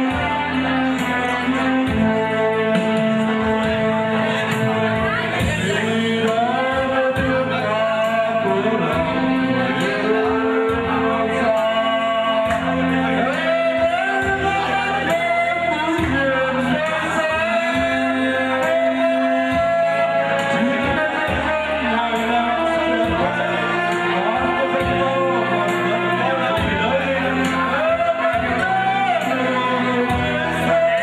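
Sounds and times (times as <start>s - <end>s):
instrumental music with steady beat: 0.0s - 31.0s
man singing into a microphone: 0.0s - 31.0s.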